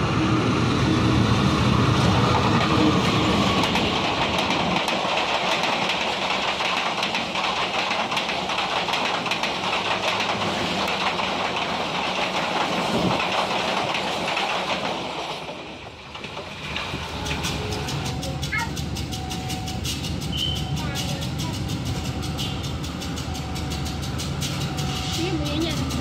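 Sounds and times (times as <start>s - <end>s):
train wheels clattering over rail joints: 1.8s - 26.0s.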